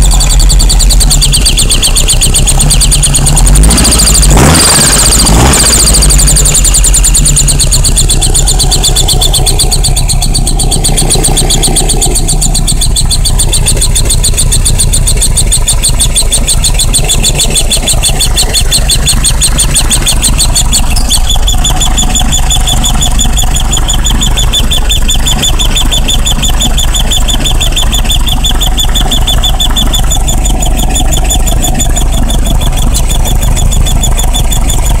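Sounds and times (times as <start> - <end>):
car engine running: 0.0 - 35.0
high-pitched pulsing whine: 0.0 - 35.0.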